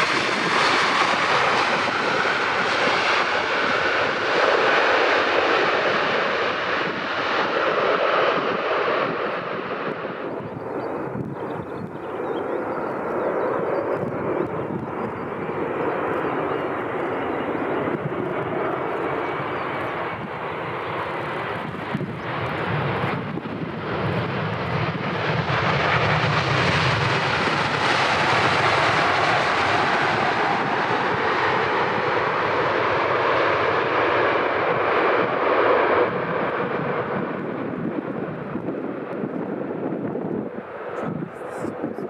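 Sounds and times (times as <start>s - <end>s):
jet engines humming: 0.0s - 42.0s.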